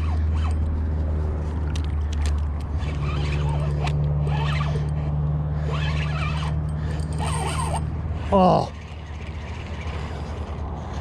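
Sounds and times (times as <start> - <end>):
fishing reel whirring and clicking: 0.0 - 0.7, 1.7 - 11.0.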